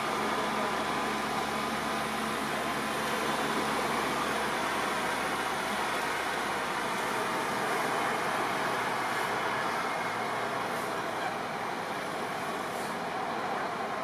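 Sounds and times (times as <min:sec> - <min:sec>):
highway traffic rush: 0:00.0 - 0:14.0.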